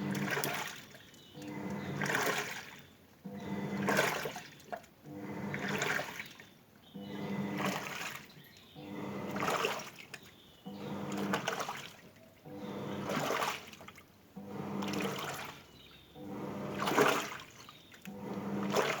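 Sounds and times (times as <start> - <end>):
washing machine motor humming: 0.0 - 19.0
water sloshing and churning: 0.0 - 19.0.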